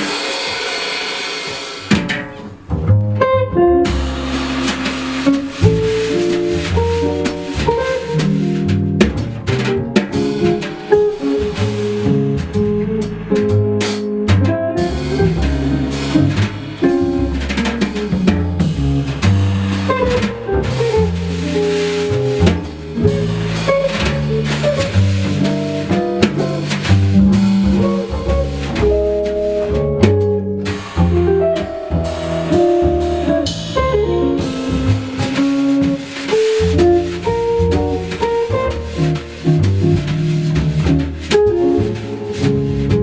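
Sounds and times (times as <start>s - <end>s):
drum kit hits: 0.0s - 43.0s
jazz guitar: 1.4s - 43.0s
sustained bass notes: 2.4s - 43.0s.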